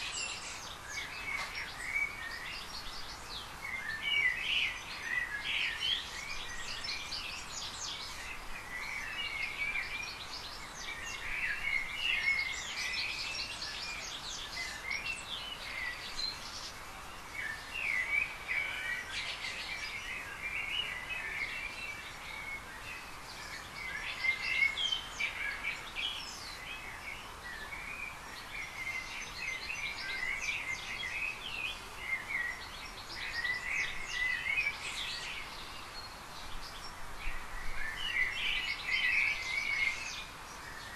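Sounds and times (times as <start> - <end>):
birds chirping: 0.0 - 40.9
steady background hiss: 0.0 - 40.9.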